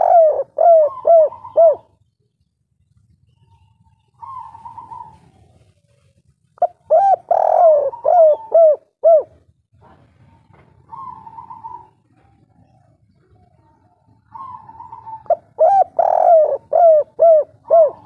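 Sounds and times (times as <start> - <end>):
dove cooing: 0.0 - 2.0, 4.0 - 9.5, 10.8 - 18.0.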